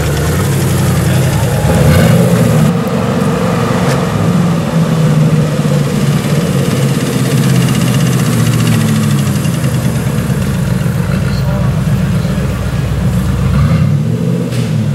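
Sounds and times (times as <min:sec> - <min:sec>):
car engine running at low revs: 0:00.0 - 0:14.9.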